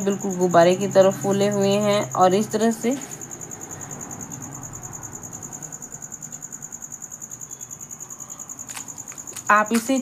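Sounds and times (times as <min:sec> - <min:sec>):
cricket chirping: 0:00.0 - 0:10.0.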